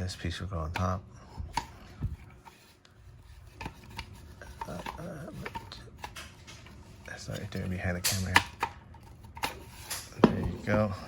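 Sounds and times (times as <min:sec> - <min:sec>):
parts rubbing and scraping: 0:00.8 - 0:11.0.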